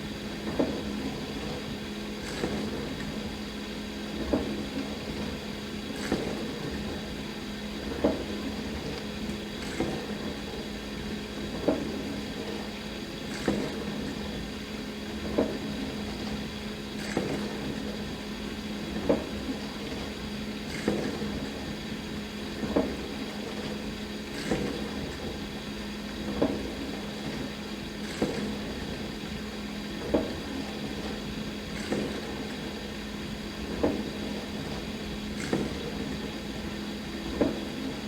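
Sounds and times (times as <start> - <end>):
dishwasher pump hum: 0.0 - 38.0.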